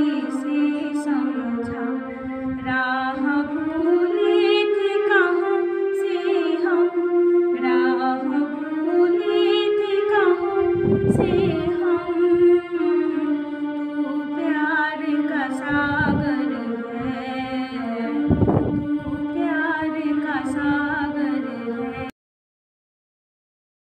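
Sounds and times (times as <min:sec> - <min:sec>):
woman singing slow song: 0:00.0 - 0:22.1.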